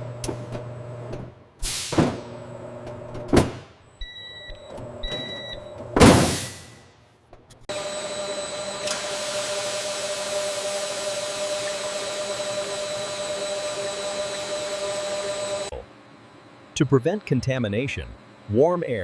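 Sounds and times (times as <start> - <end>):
mechanical hum with tones: 0.0 - 19.0.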